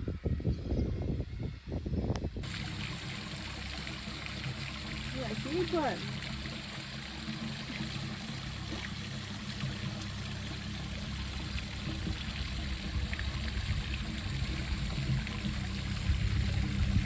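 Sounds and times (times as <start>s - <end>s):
trickle of running water: 2.4s - 17.0s.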